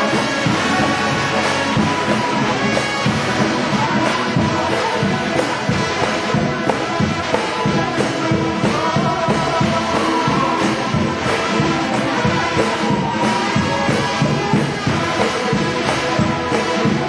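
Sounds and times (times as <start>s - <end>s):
brass band playing gospel: 0.0s - 17.0s.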